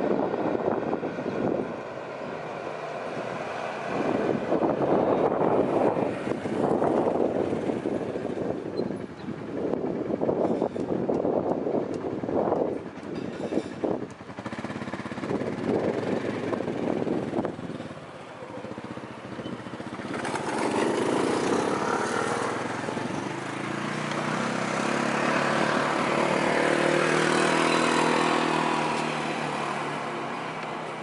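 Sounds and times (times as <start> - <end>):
passing vehicle engine hum: 0.0 - 31.0.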